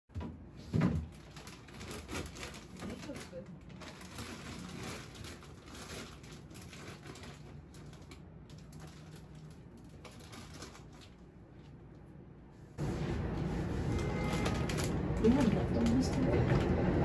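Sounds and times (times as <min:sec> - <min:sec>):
grocery packages clicking and rustling: 0:00.2 - 0:12.0, 0:12.8 - 0:17.0.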